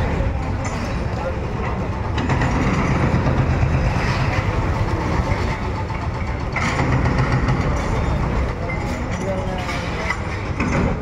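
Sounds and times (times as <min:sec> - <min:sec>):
excavator diesel engine running: 0:00.0 - 0:11.0
rush of demolition noise: 0:00.0 - 0:11.0.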